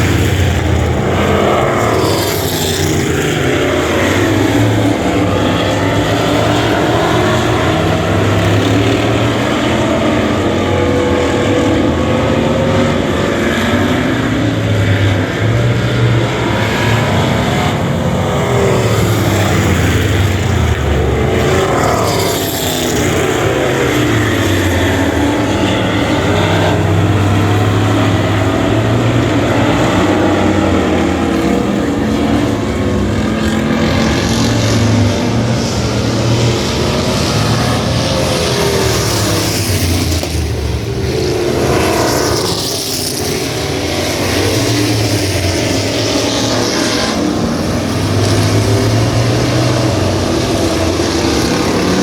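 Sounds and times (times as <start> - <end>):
race car engines passing: 0.0 - 52.0.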